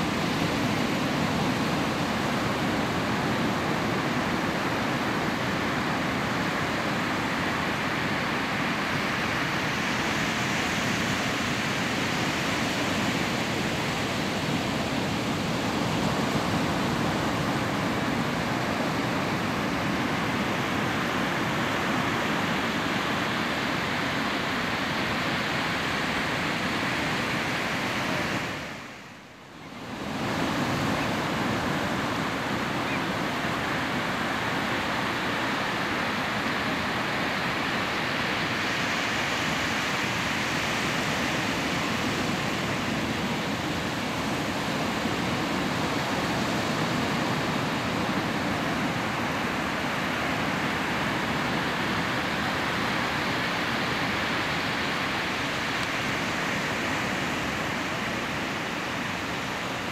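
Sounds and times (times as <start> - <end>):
ocean surf rushing: 0.0 - 59.9.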